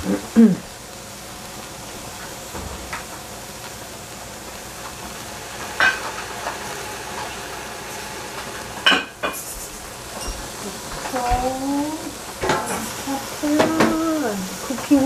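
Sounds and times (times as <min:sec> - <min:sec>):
cabbage sizzling in a pot: 0:00.0 - 0:15.0.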